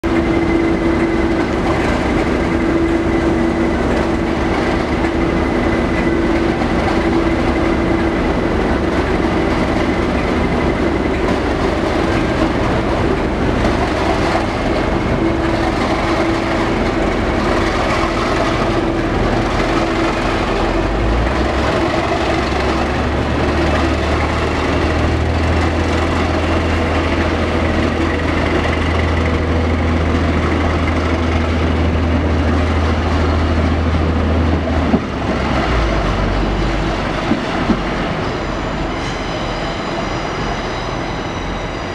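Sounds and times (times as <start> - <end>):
diesel locomotive engine drone: 0.0 - 41.9
wheels clattering on track: 0.0 - 41.9.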